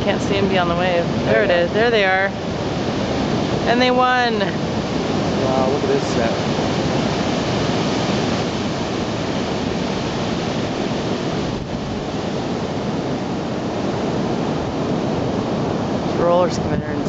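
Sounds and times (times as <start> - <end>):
ocean surf breaking: 0.0 - 17.0
wind on microphone: 0.0 - 17.0.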